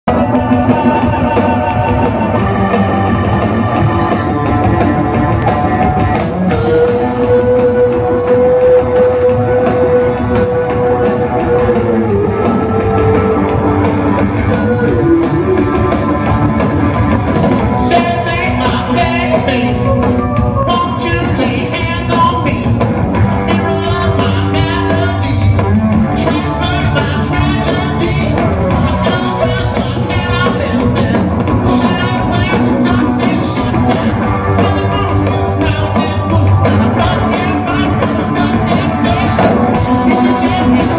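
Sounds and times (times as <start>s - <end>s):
driving drums: 0.0s - 40.9s
lead vocal singing: 0.1s - 4.5s, 5.6s - 16.4s, 17.6s - 40.9s
electric guitars: 0.1s - 40.9s.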